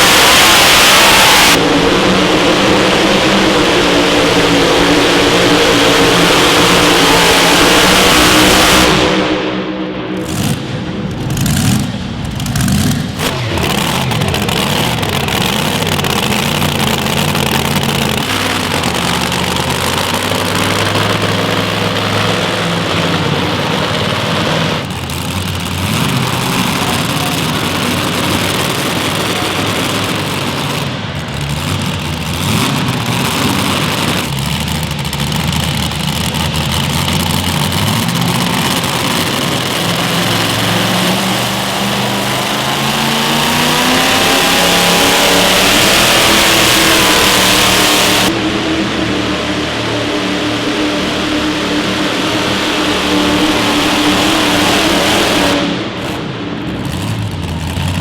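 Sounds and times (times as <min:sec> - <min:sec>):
dense rushing noise: 0:00.0 - 0:58.0
vehicle engine running loud: 0:00.0 - 0:58.0.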